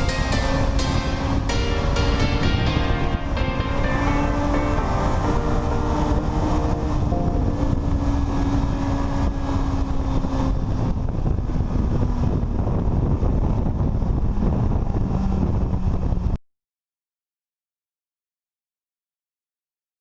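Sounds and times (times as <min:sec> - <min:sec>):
wind rumble on microphone: 0:00.0 - 0:16.4.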